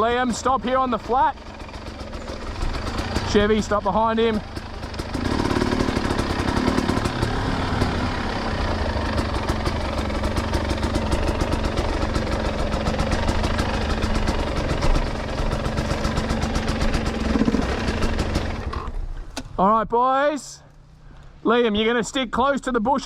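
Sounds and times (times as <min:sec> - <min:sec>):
dirt bike engine idling: 0:00.0 - 0:19.8.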